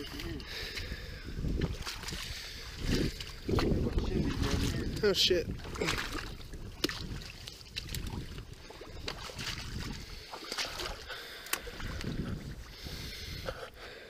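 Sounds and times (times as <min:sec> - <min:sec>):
wind rumble on microphone: 0:00.0 - 0:13.6
water sloshing: 0:00.0 - 0:13.8.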